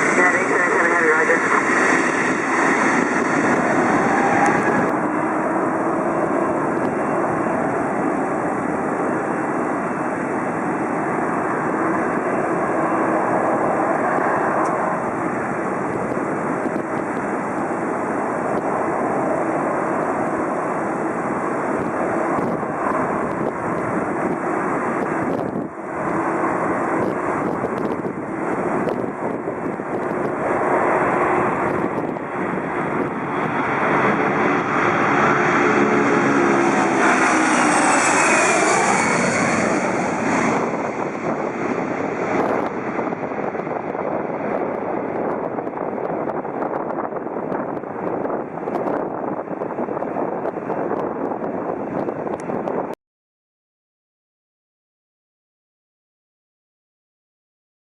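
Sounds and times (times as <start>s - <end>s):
jet engines running: 0.0s - 52.9s.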